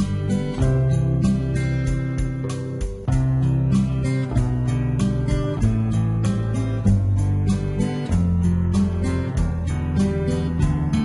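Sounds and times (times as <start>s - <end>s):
instrumental background music: 0.0s - 11.0s
plucked guitar: 0.0s - 11.0s.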